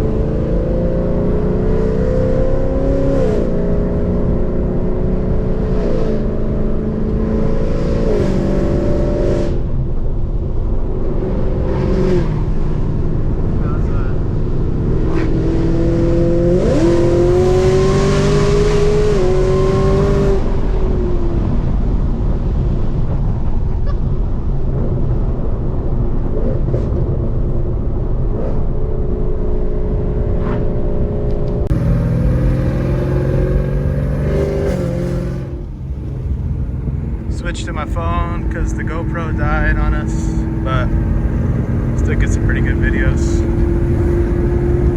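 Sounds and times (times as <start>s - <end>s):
car engine accelerating hard: 0.0s - 25.2s, 26.4s - 44.9s.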